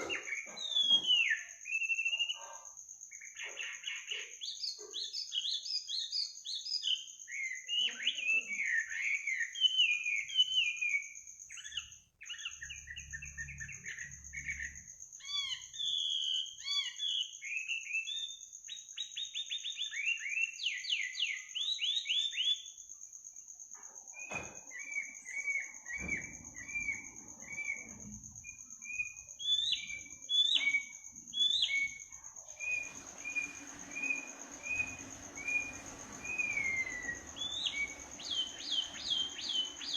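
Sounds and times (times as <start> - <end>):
short repeated bird chirps: 0.0 - 22.9, 23.8 - 39.9
songbird singing: 0.0 - 39.9.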